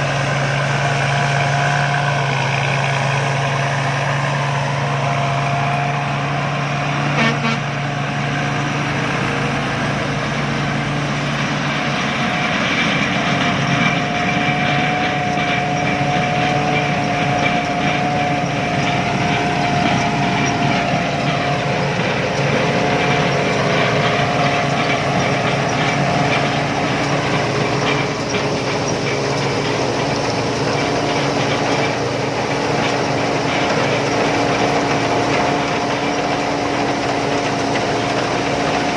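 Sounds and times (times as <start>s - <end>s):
combine harvester running: 0.0s - 38.9s
steady mechanical whine: 0.0s - 38.9s.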